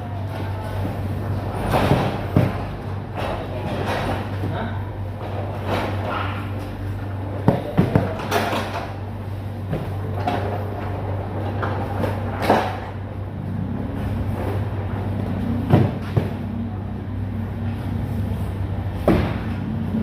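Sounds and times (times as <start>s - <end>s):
steady low hum: 0.0s - 20.0s
knocks and clunks of goods: 0.2s - 13.1s, 14.0s - 16.7s, 19.0s - 20.0s.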